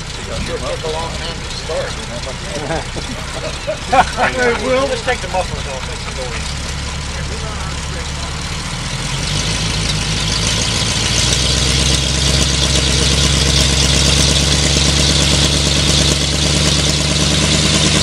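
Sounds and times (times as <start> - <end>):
loud engine running: 0.0 - 18.0.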